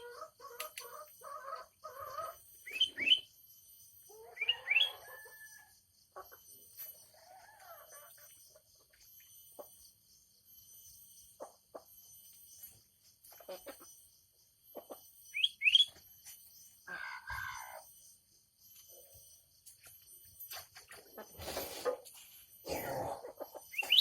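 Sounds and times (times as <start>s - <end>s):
birds chirping: 0.0s - 5.3s, 6.2s - 21.9s, 22.6s - 24.0s.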